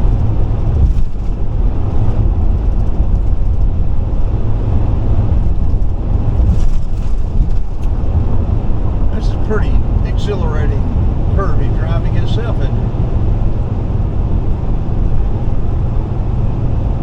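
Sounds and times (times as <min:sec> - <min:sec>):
car engine drone: 0:00.0 - 0:17.0
road and tyre rumble: 0:00.0 - 0:17.0.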